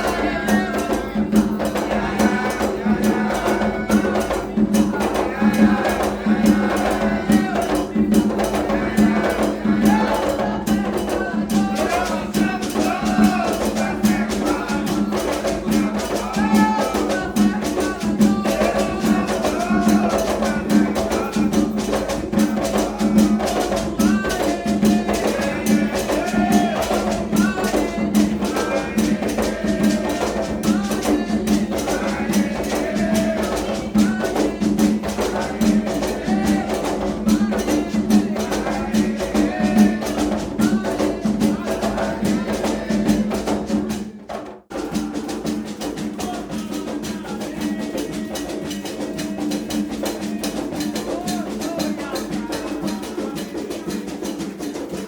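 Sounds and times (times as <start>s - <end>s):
group singing: 0.0s - 55.0s
hand drums beating: 0.0s - 55.0s.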